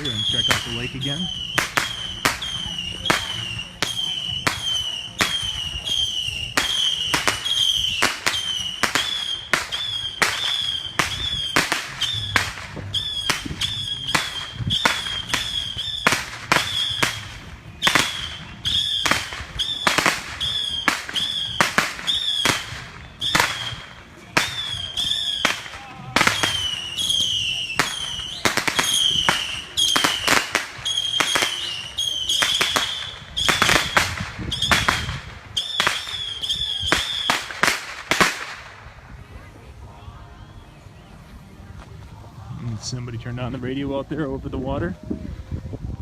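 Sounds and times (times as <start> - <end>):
fireworks bangs: 0.0 - 39.1.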